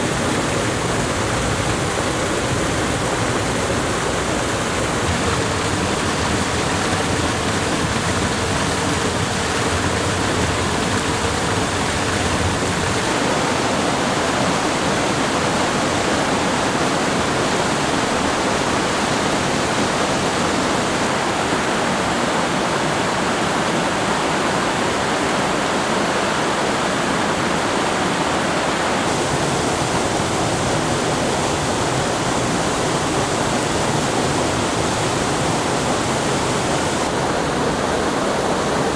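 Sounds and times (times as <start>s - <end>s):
waterfall: 0.0s - 38.9s.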